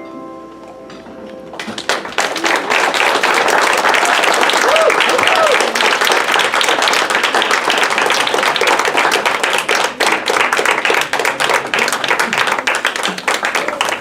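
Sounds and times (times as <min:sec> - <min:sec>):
crowd applauding: 0:01.5 - 0:14.0.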